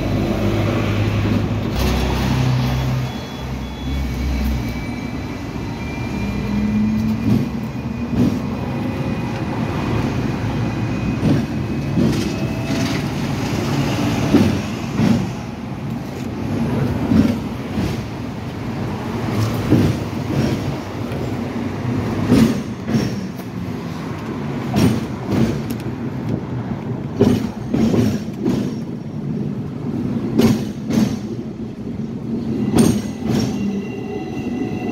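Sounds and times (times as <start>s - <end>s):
tram rumbling on track: 0.0s - 34.9s.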